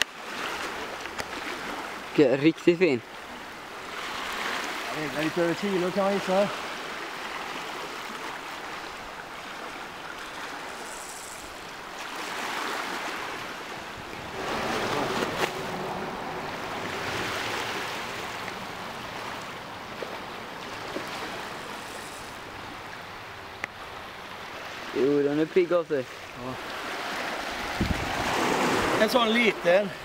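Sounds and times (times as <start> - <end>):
water current rushing: 0.0 - 30.0.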